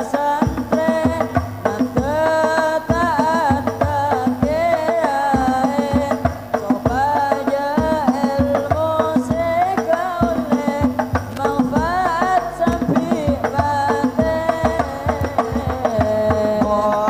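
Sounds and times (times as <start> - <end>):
hand drums beating: 0.0 - 17.0
man singing into microphone: 0.0 - 17.0
bass drum: 0.4 - 17.0.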